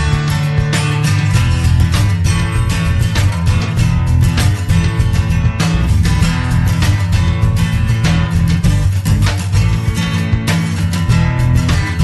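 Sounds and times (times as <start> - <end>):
bass line: 0.0 - 12.0
strummed guitar music with beat: 0.0 - 12.0.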